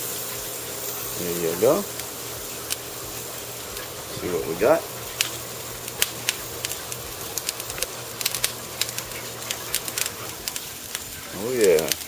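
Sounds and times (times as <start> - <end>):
fat popping and crackling: 0.0 - 12.0
steak sizzling on a grill: 0.0 - 12.0.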